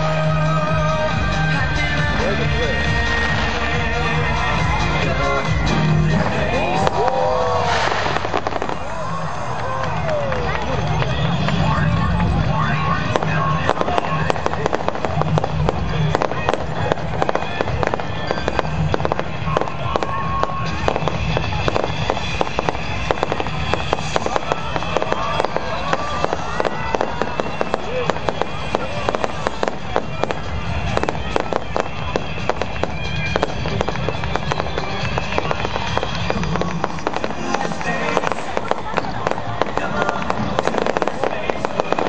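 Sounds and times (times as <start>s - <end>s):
fireworks bangs and crackles: 0.0s - 42.0s
music: 0.0s - 42.0s.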